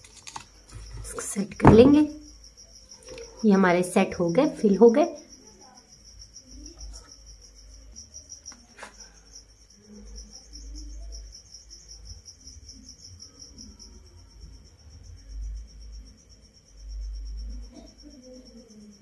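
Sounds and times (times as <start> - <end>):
cricket chirping trill: 0.0 - 19.0.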